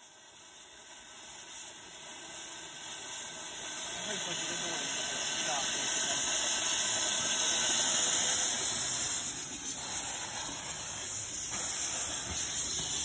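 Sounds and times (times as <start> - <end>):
steam locomotive venting steam: 0.0 - 13.0.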